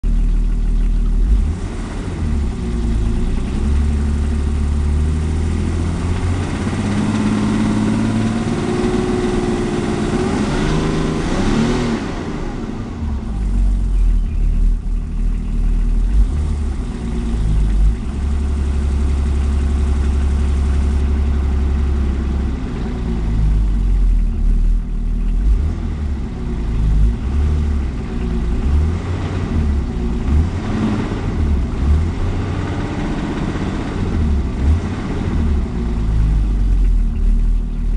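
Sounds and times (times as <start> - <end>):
diesel engine rumbling: 0.0 - 37.9.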